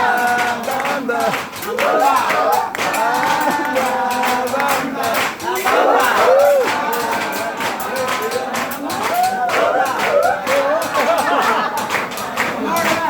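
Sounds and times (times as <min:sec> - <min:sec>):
music: 0:00.0 - 0:13.0
people clapping: 0:00.0 - 0:13.0
voices talking and singing: 0:00.0 - 0:13.0.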